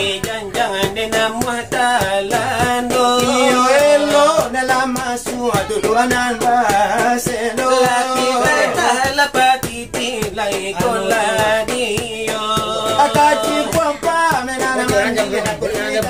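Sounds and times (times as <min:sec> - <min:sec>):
hands beating brass trays: 0:00.0 - 0:16.0
men singing a chant: 0:00.0 - 0:16.0.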